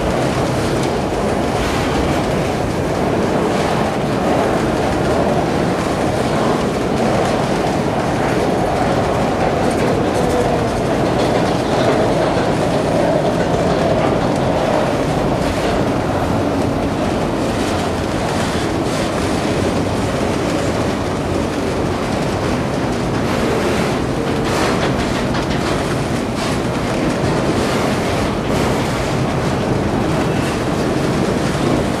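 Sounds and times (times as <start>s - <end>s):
steel wheels rumbling on rail: 0.0s - 32.0s
wheels clacking over rail joints: 0.0s - 32.0s.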